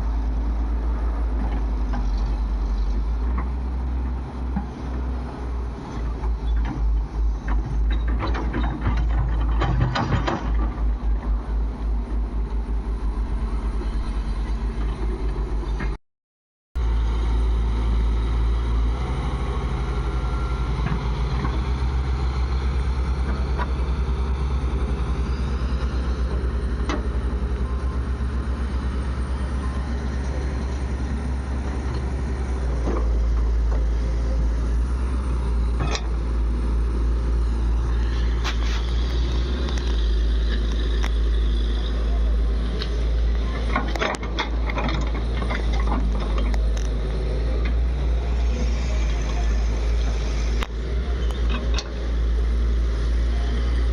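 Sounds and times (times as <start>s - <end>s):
diesel engine running: 0.0s - 16.0s, 16.8s - 53.9s.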